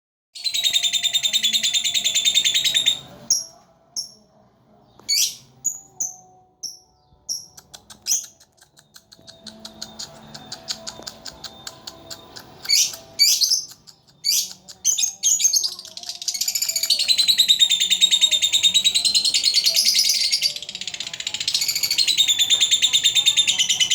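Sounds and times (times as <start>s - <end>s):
lovebird chattering and chirping: 0.4s - 4.2s, 5.1s - 23.9s.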